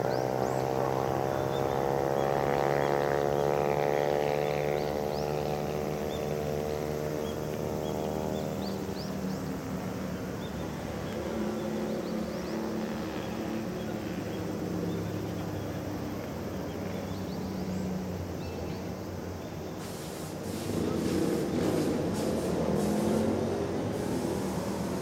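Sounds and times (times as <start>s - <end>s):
distant engine drone: 0.0s - 25.0s.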